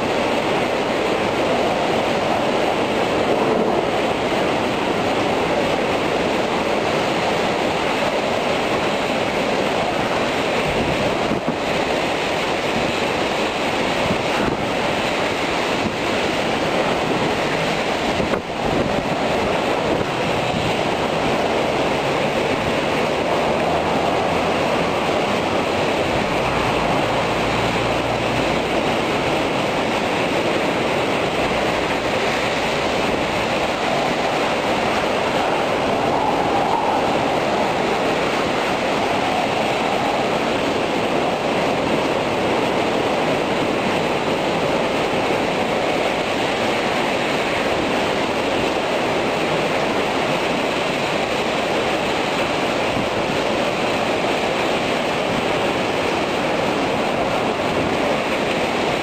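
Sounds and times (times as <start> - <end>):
heavy rain and wind: 0.0 - 59.0.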